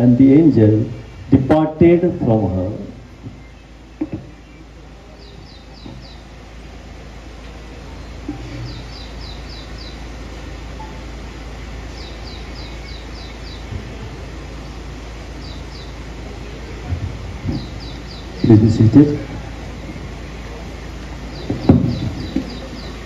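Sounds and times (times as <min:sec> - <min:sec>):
small bird calling: 0:02.2 - 0:06.8, 0:07.6 - 0:23.0.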